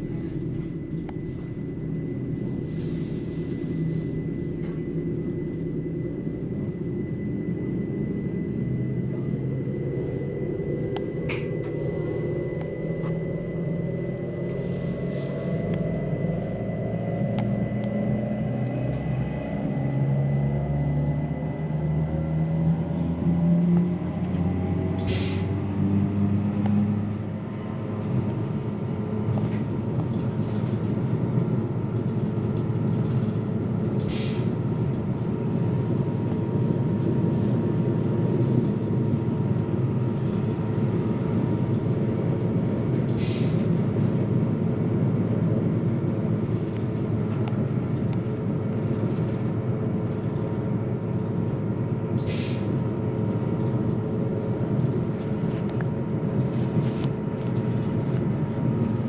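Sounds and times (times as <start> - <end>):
train rumble and wheel noise: 0.0 - 59.0.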